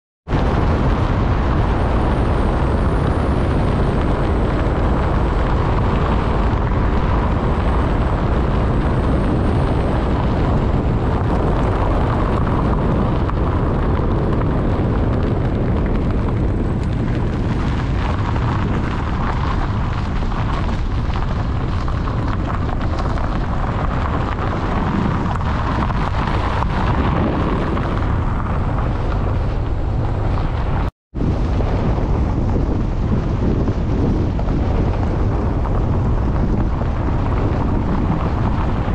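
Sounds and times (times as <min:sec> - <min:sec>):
wind buffeting microphone: 0:00.2 - 0:38.9
vehicle driving rumble: 0:00.3 - 0:38.9.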